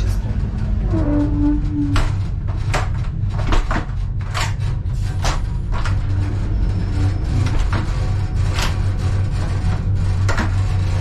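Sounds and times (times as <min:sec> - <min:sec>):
low train rumble: 0:00.0 - 0:11.0.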